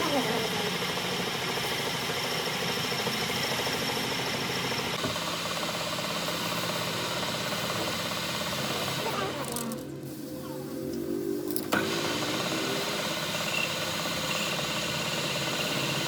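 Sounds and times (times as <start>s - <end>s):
workshop machinery humming and rattling: 0.0s - 16.0s.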